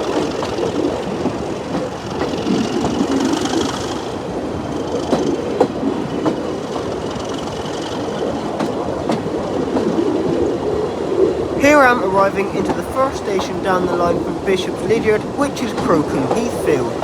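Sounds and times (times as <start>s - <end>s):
train running: 0.0s - 17.0s
wheels clicking over rail joints: 0.0s - 17.0s.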